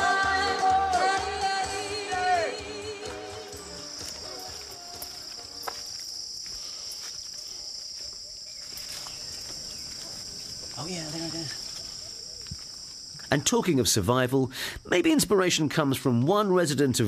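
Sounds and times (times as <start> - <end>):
forest insects droning: 1.4 - 17.0.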